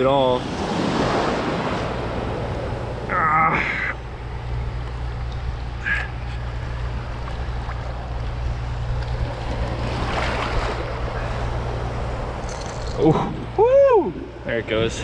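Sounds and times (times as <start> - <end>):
rush of water: 0.0 - 4.2, 5.8 - 14.8
surf washing: 0.0 - 15.0.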